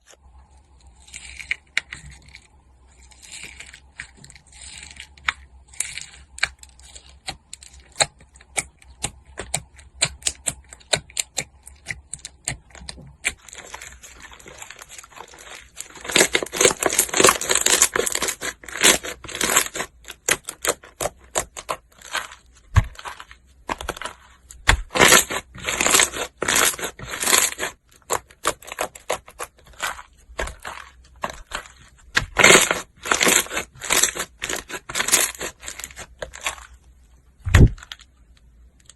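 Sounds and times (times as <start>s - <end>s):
slime squishing: 0.0s - 38.9s.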